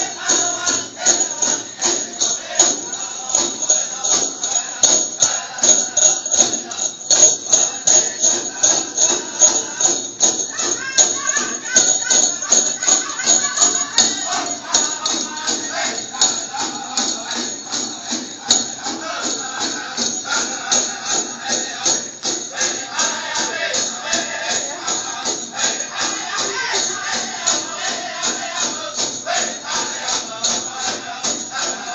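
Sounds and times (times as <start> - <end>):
bells jingling: 0.0 - 31.9
singing over fast drumbeat: 0.0 - 31.9.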